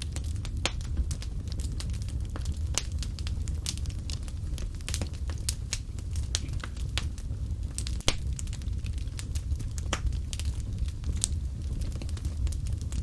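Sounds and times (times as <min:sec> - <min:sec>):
fire pops and snaps: 0:00.0 - 0:13.0
low rumble of flames: 0:00.0 - 0:13.0
wood fire crackling: 0:00.0 - 0:13.0.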